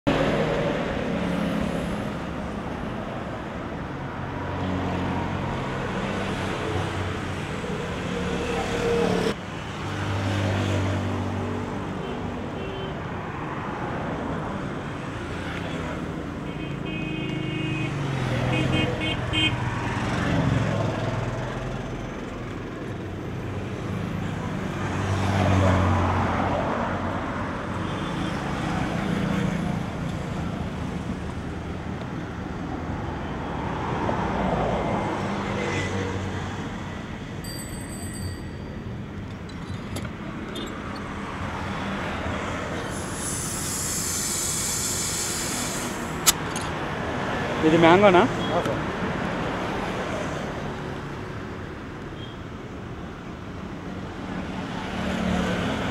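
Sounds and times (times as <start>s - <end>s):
street traffic noise: 0.0s - 55.9s.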